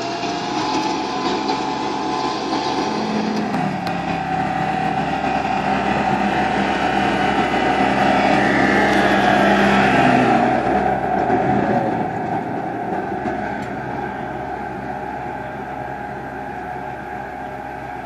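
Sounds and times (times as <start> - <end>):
rotary tiller working soil: 0.0 - 18.0
tractor diesel engine passing: 0.0 - 18.0.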